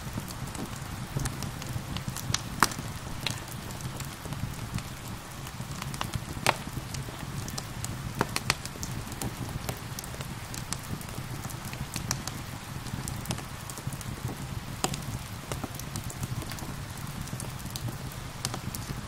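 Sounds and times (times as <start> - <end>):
gentle rain: 0.0 - 19.0
wood fire crackling and popping: 0.0 - 19.0.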